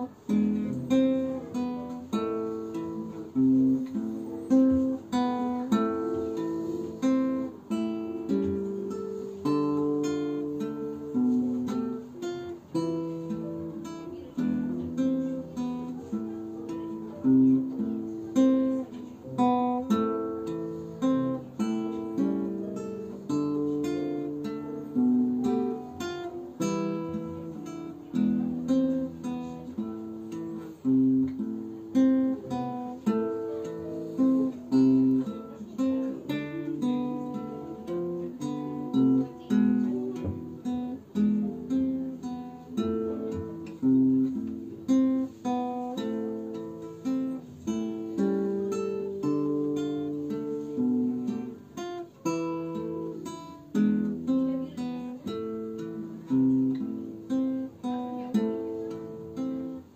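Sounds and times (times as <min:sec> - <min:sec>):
acoustic guitar folk melody: 0:00.0 - 0:59.9.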